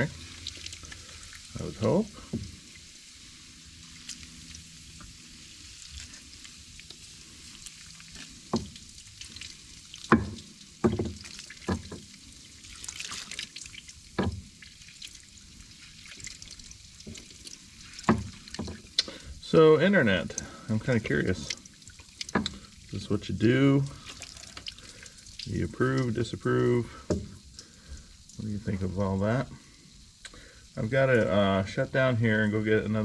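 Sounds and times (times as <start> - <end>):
solution fizzing and crackling: 0.0 - 33.0.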